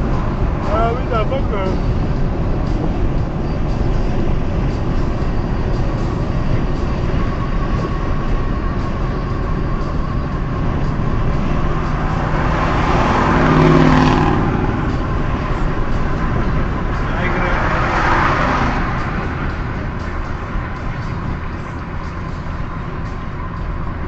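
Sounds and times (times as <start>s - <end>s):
road and engine rumble: 0.0s - 24.0s
vehicle passing: 0.0s - 24.0s.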